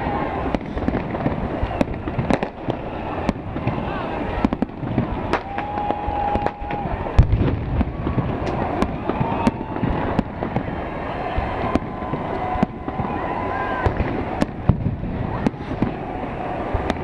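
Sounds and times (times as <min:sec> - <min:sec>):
firework whistling: 0:00.0 - 0:17.0
fireworks bangs and crackles: 0:00.0 - 0:17.0.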